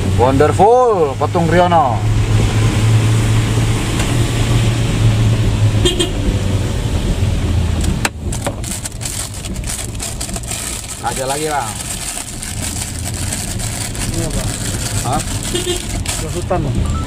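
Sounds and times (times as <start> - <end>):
car engine hum and road noise: 0.0 - 17.0.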